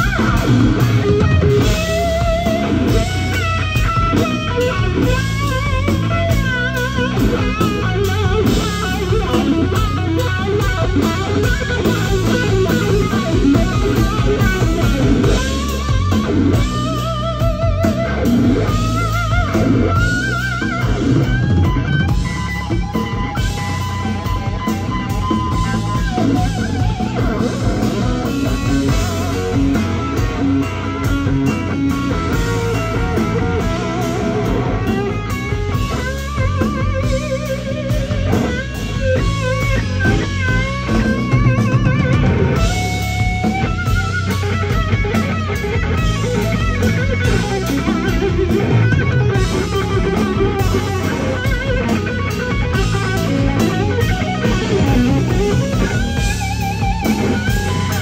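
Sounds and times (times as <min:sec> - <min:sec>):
bass guitar: 0:00.0 - 0:58.0
drum kit: 0:00.0 - 0:58.0
electric guitar lead lines: 0:00.0 - 0:58.0.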